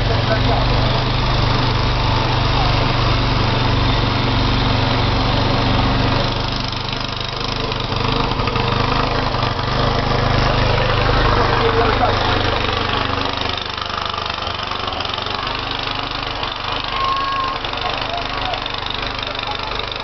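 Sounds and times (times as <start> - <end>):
snow blower engine running: 0.0 - 20.0.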